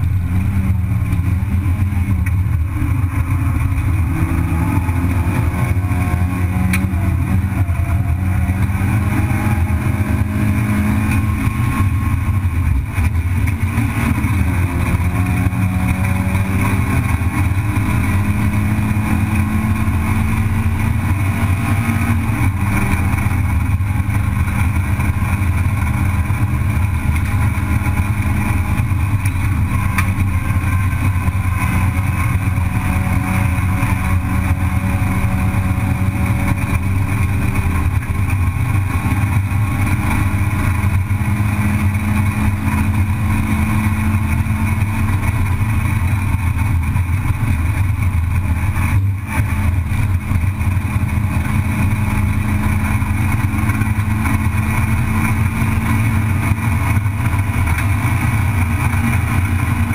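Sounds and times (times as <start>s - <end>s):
racing car engine: 0.0s - 59.9s
road and wind noise: 0.0s - 59.9s.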